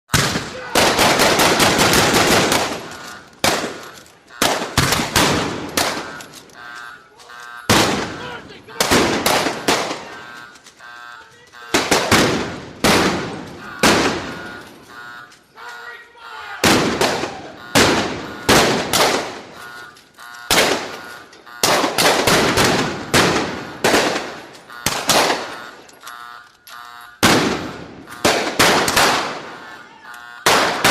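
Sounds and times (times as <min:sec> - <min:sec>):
gunshots with echoing decay: 0:00.1 - 0:06.7, 0:07.7 - 0:10.4, 0:11.6 - 0:14.9, 0:16.6 - 0:19.8, 0:20.5 - 0:25.9, 0:27.2 - 0:30.9.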